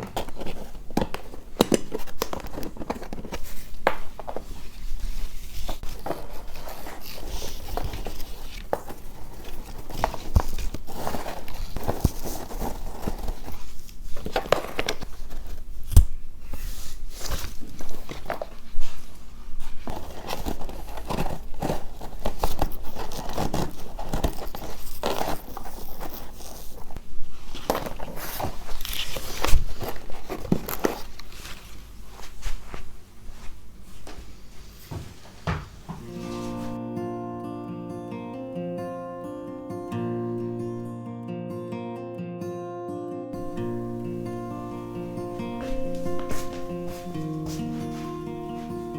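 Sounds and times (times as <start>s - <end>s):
crinkling and rustling: 0.0s - 36.8s, 43.4s - 48.9s.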